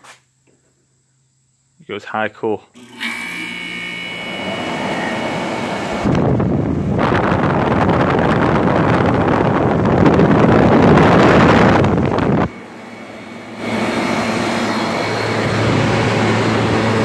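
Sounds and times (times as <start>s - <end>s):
faint fan motor whine: 0.3s - 17.0s
window air conditioner running: 2.2s - 17.0s.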